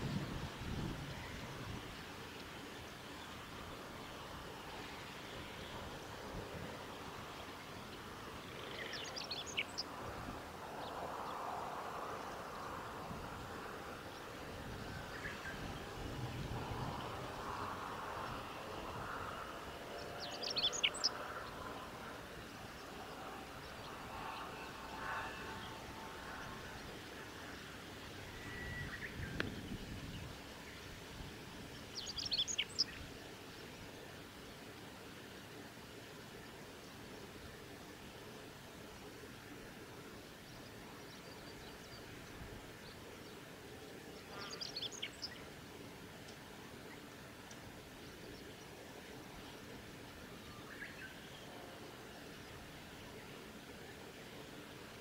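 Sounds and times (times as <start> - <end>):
background hiss: 0.0 - 55.0
faint background noise: 0.0 - 55.0.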